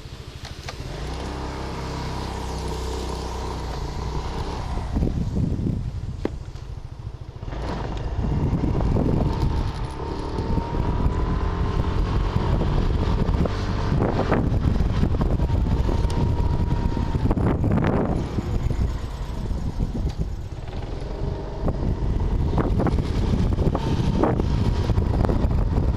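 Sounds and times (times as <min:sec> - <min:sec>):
vehicle driving on wet road: 0:00.0 - 0:25.9.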